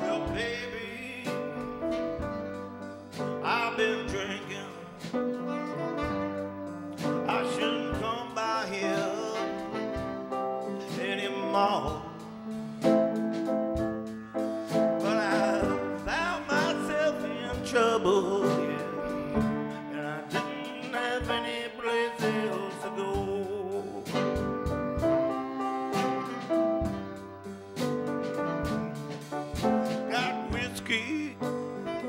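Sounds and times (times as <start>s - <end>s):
drum kit beat: 0.0s - 32.0s
piano chords: 0.0s - 32.0s
saxophone melody: 0.0s - 32.0s.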